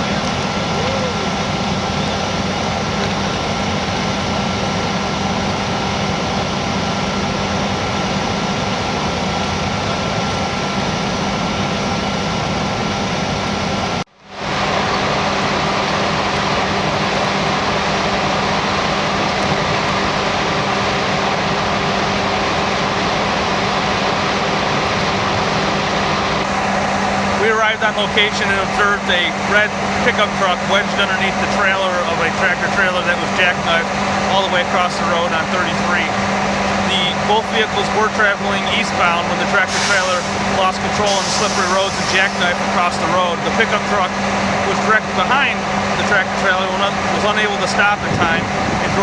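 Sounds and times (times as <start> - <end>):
vehicle engines idling: 0.0 - 14.0, 16.2 - 49.0.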